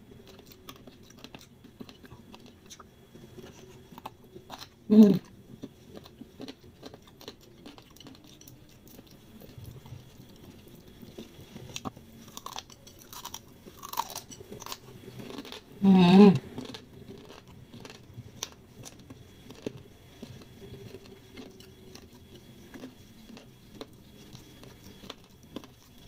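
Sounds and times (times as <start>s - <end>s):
chewing noodles: 0.2s - 15.7s, 16.4s - 26.0s.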